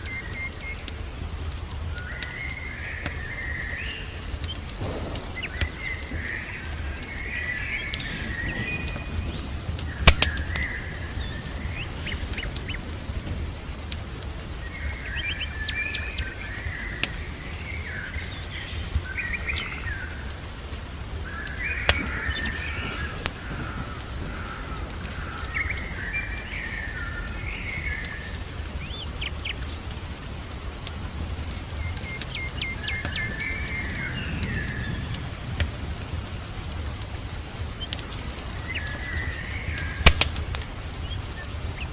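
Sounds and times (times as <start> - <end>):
fireplace crackles: 0.0 - 41.9
small birds chirping: 0.0 - 41.9
steady low rumble: 0.0 - 41.9.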